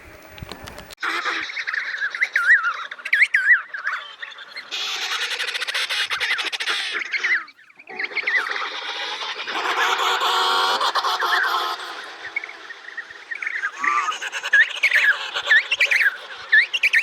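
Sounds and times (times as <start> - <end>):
penguins calling: 0.4 - 17.0.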